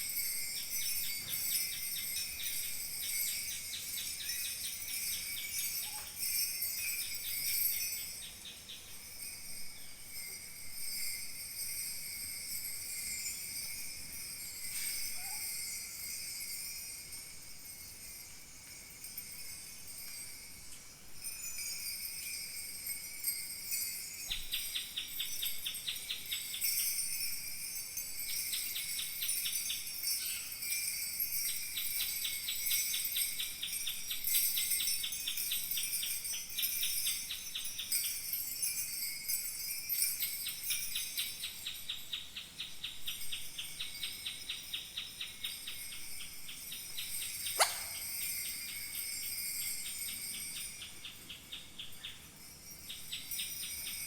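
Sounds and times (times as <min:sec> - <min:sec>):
bronze bells jingling: 0:00.0 - 0:54.0.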